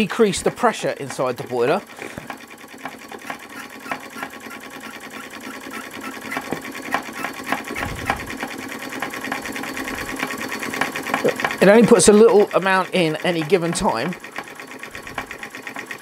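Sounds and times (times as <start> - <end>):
steam engine clatter: 0.0 - 16.0.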